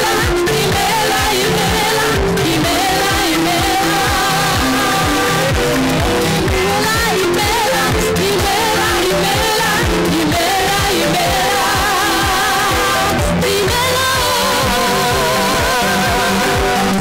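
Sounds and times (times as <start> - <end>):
band accompaniment: 0.0 - 17.0
people singing into microphones: 0.0 - 17.0
steady drum beat: 0.2 - 17.0.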